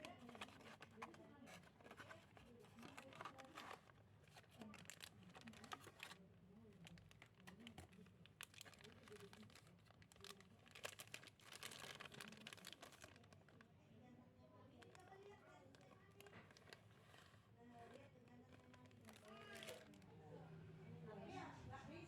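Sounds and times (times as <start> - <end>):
plastic packaging crinkling: 0.0 - 13.7, 14.8 - 20.1.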